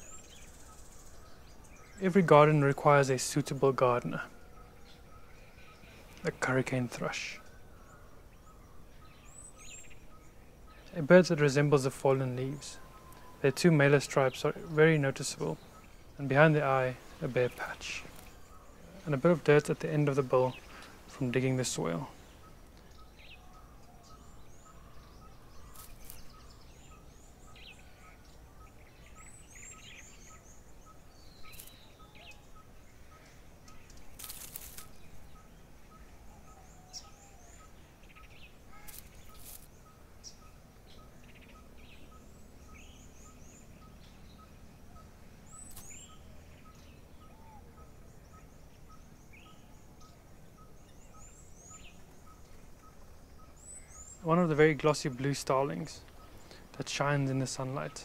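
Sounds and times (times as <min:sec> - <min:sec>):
repeated short bird notes: 0:00.0 - 0:58.0
small birds chirping: 0:00.0 - 0:58.0.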